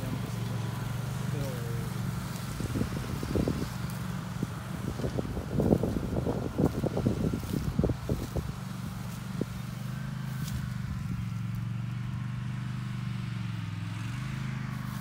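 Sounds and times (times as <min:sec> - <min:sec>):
lawn tractor engine mowing: 0:00.0 - 0:15.0.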